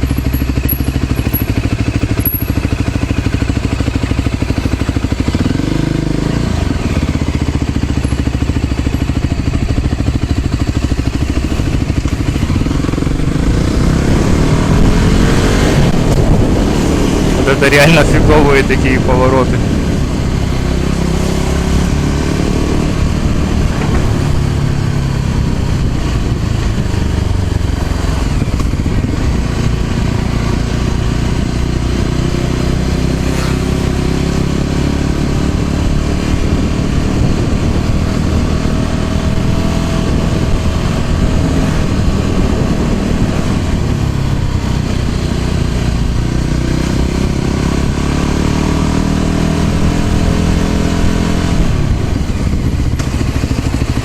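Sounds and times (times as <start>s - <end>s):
motor scooter engine running: 0.0s - 54.0s.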